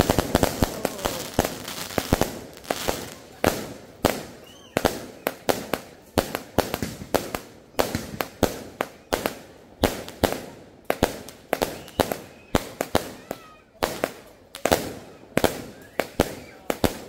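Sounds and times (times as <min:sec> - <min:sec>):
rapid firework bangs with hiss: 0:00.0 - 0:17.0.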